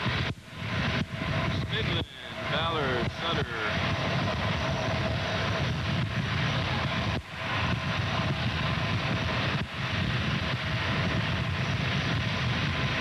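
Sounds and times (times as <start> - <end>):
faint whine: 0.0 - 13.0
jet aircraft roar: 0.0 - 13.0.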